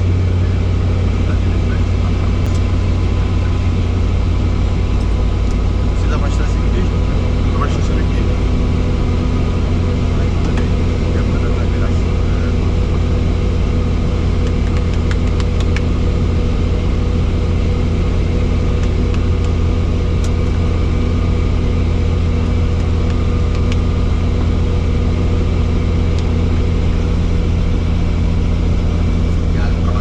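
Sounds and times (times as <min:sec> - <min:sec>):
helicopter drone: 0:00.0 - 0:30.0.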